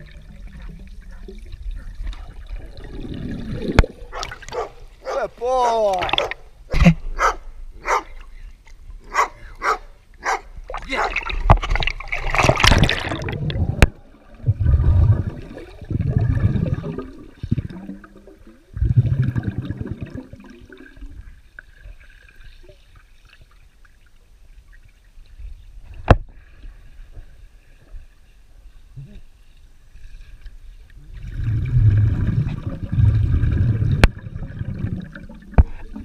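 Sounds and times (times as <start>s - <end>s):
muffled underwater water churning: 0.0s - 36.0s.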